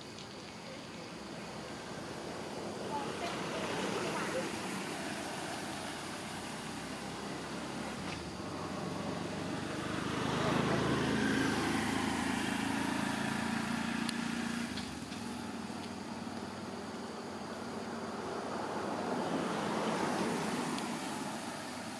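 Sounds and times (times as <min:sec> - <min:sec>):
vehicle engine passing by: 0:01.5 - 0:21.9.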